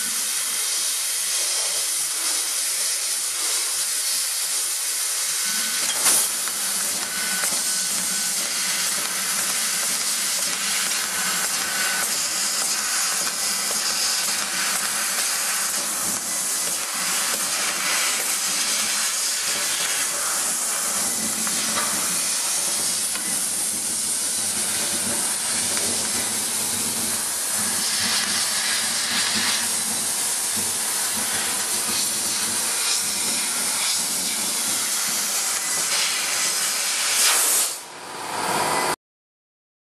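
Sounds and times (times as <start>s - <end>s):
laser cutter gas hiss: 0.0s - 38.9s.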